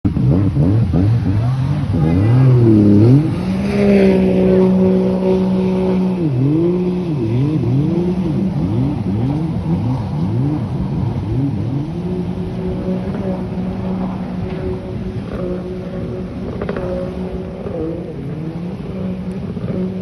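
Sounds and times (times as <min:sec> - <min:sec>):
jet ski engine revving: 0:00.1 - 0:20.0.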